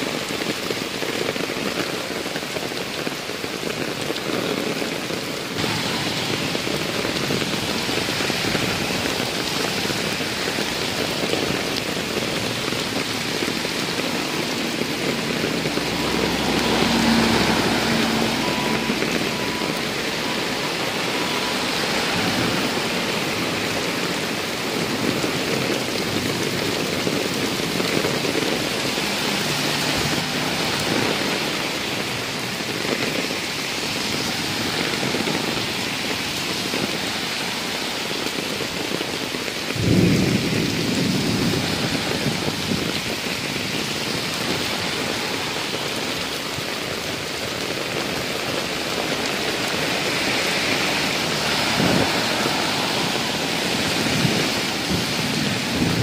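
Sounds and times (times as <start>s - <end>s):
heavy rain on road: 0.0s - 56.0s.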